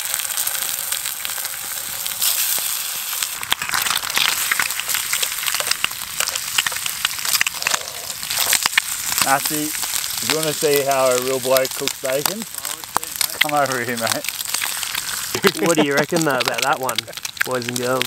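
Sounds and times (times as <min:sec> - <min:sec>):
bacon frying sizzle: 0:00.0 - 0:18.0.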